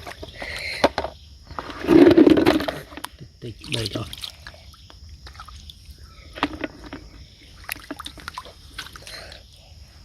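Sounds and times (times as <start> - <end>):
water sloshing and splashing: 1.5 - 9.6.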